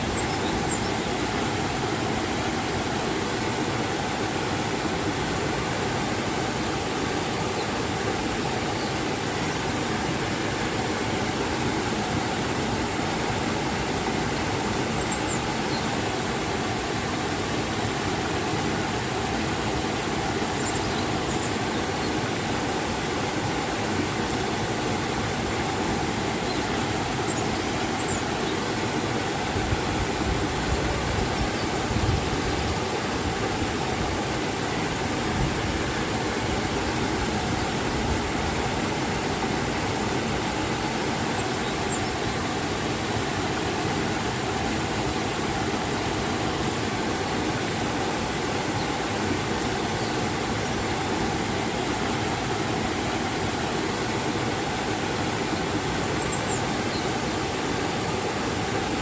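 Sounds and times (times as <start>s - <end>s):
waterfall and river rushing: 0.0s - 59.0s.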